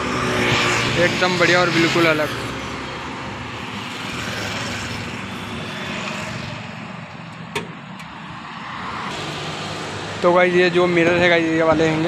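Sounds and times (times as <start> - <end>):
highway traffic passing: 0.0 - 12.0.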